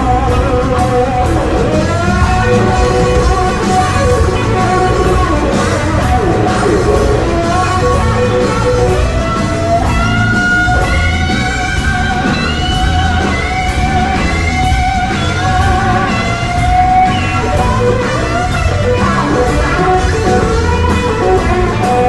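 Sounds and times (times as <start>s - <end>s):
bass: 0.0s - 22.0s
drums: 0.0s - 22.0s
electric blues guitar lead: 0.0s - 22.0s.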